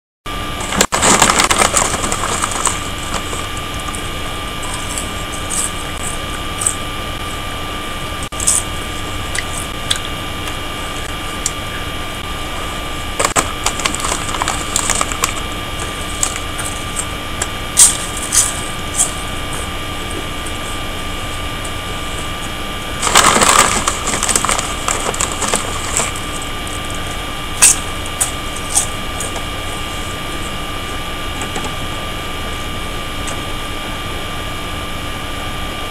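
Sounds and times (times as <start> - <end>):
crackles and clicks: 0.3 - 35.8
electrical hum: 0.3 - 35.9.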